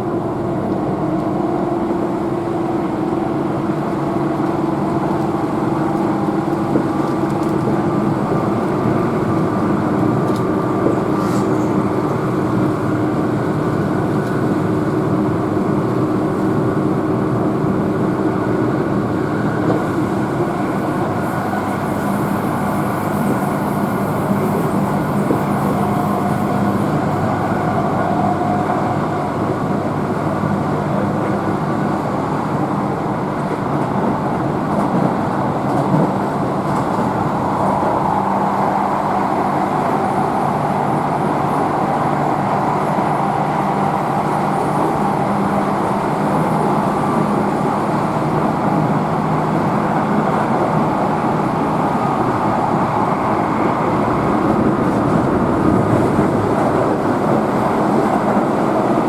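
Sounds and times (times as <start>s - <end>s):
train motor hum: 0.0s - 59.0s
train wheels rumbling on rails: 0.0s - 59.0s.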